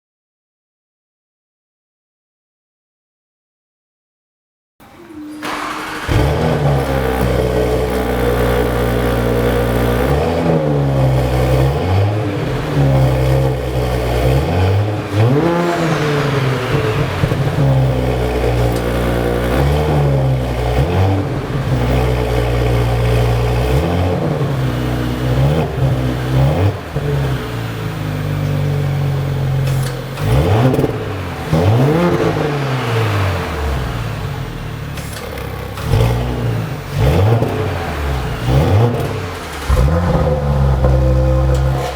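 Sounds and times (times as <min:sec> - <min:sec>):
car engine idling and revving: 0:05.4 - 0:41.9.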